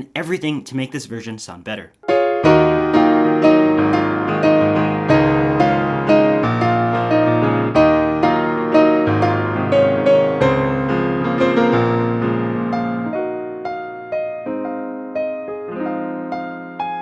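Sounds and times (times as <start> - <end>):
piano playing: 2.0 - 17.0.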